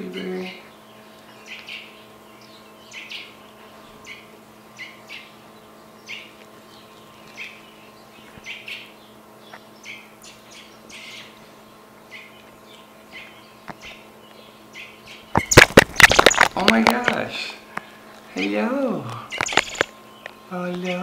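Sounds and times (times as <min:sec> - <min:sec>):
young robin chirping: 0:00.1 - 0:17.2, 0:19.2 - 0:21.0.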